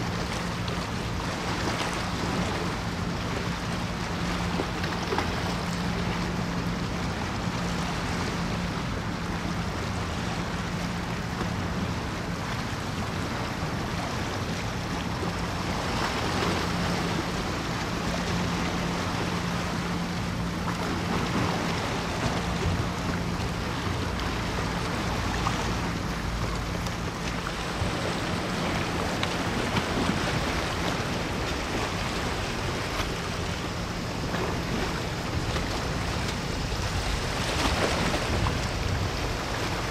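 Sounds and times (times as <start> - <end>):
ship machinery hum: 0.0 - 39.9
water wash: 0.0 - 39.9
wind: 0.0 - 39.9.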